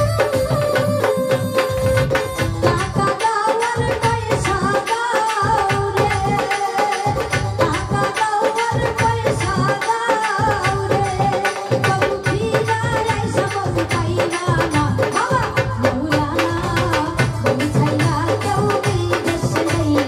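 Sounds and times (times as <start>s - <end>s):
drum beating steady rhythm: 0.0s - 20.0s
keyboard accompaniment: 0.0s - 20.0s
woman singing: 0.0s - 20.0s.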